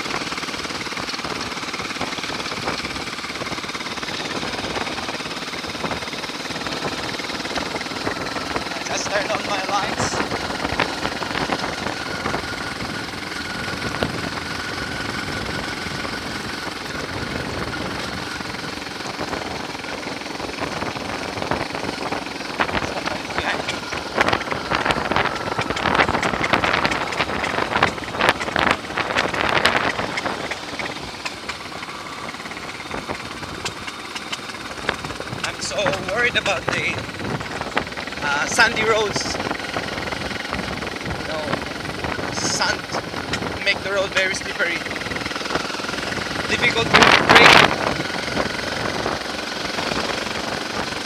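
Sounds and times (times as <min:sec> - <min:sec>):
rattling and knocking: 0:00.0 - 0:44.1
motorcycle engine running: 0:00.0 - 0:51.0
wind rushing over microphone: 0:01.2 - 0:33.9, 0:34.6 - 0:51.0.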